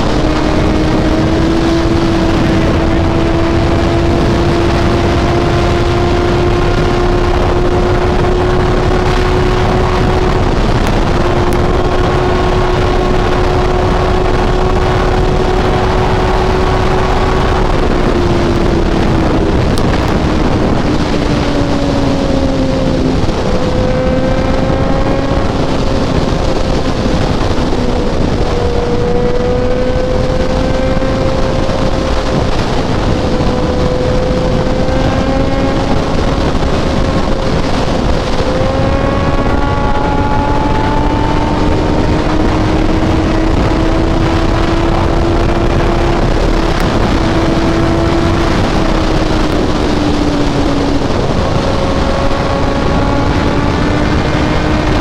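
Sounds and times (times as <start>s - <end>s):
motorcycle engine cruising: 0.0s - 55.0s
wind rush: 0.0s - 55.0s.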